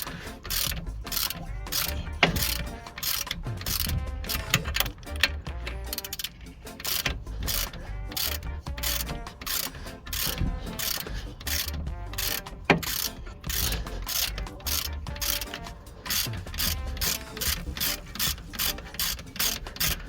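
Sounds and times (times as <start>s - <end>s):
socket ratchet clicking: 0.0s - 20.0s.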